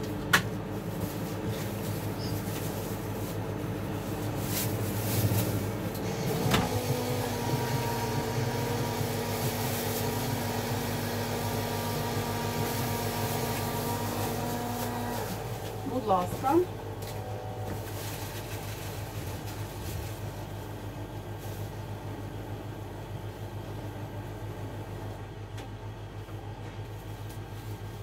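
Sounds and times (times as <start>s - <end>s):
coffee machine humming: 0.0s - 28.0s.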